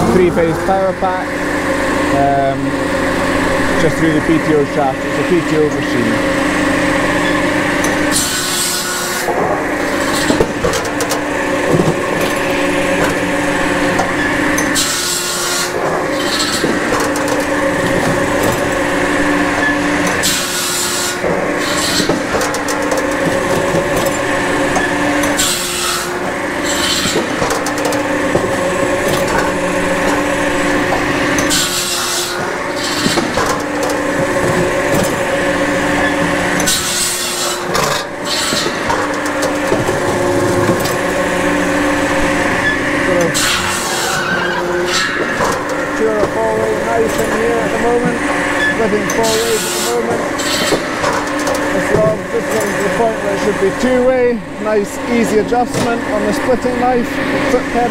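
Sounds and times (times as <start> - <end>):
circular saw cutting logs: 0.0 - 57.9
firewood processor drone: 0.0 - 57.9.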